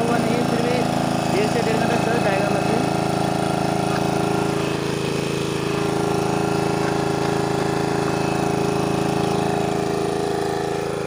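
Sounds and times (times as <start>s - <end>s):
water pump engine running: 0.0s - 11.0s.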